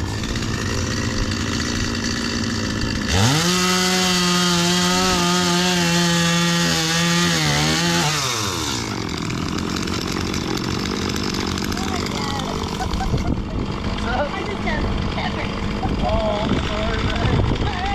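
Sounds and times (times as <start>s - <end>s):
chainsaw idling and revving: 0.0s - 17.9s.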